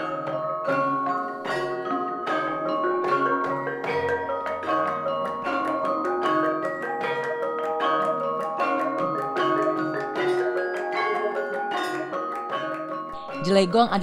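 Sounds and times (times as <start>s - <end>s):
metallophones ringing: 0.0s - 14.0s.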